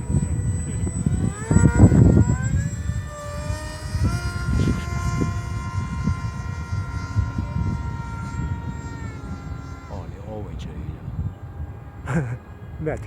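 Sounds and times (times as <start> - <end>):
electric motor and propeller whining: 0.0 - 13.0
wind rumbling on microphone: 0.0 - 13.0.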